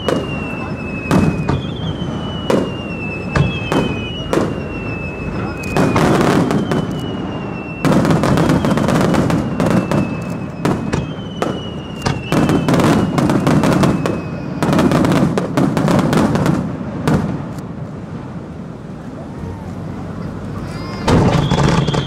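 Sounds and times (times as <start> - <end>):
fireworks whistling: 0.0 - 18.7, 19.4 - 22.0
fireworks bursting: 0.0 - 22.0.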